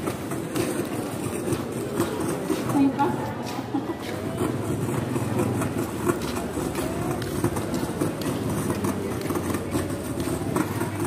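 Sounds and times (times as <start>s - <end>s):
crowd chatter: 0.0s - 11.0s.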